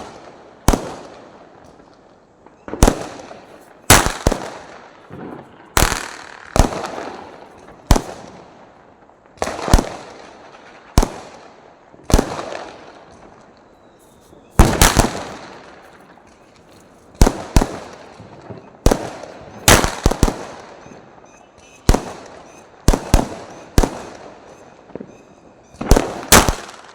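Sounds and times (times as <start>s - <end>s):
firecrackers bursting: 0.0s - 26.9s.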